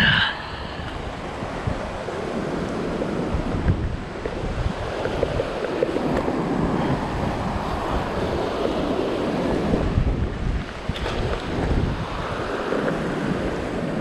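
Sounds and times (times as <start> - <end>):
ocean surf washing over rocks: 0.0 - 14.0
wind buffeting microphone: 0.0 - 14.0.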